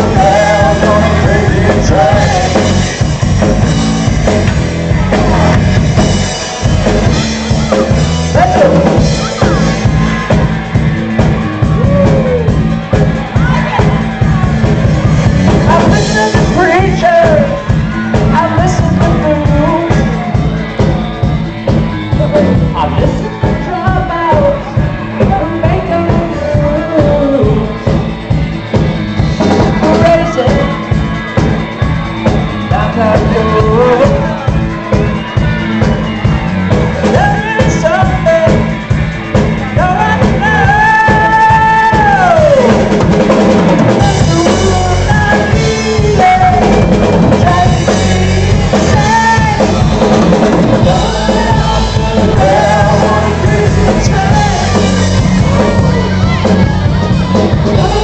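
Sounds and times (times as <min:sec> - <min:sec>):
drum kit beat: 0:00.0 - 0:58.0
lead vocals: 0:00.0 - 0:58.0
rock band playing: 0:00.0 - 0:58.0.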